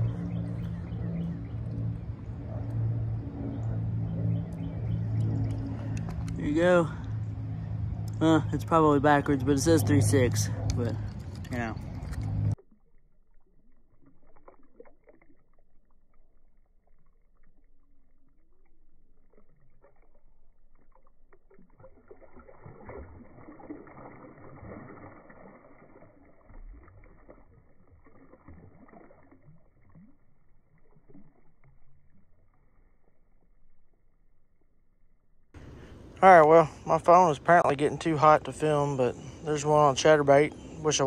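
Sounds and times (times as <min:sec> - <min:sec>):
fish splashing in shallow water: 0:00.0 - 0:34.5.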